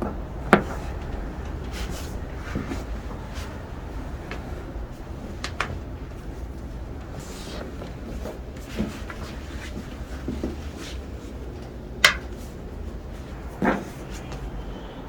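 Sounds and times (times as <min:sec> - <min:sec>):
joints cracking: 0:00.0 - 0:14.6
soft rustling and handling: 0:00.0 - 0:15.0.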